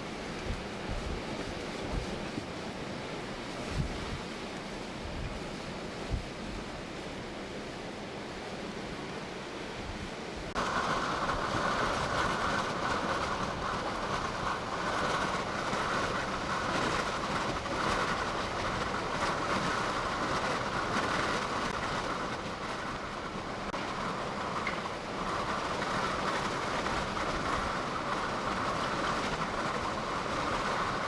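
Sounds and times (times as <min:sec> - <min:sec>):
surging harbor water: 0:00.0 - 0:31.0
wind: 0:00.0 - 0:31.0.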